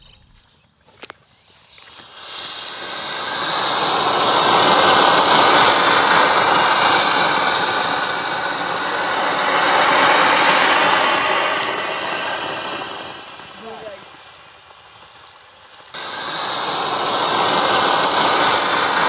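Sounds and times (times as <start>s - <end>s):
rocket motor rushing hiss: 1.2s - 19.0s.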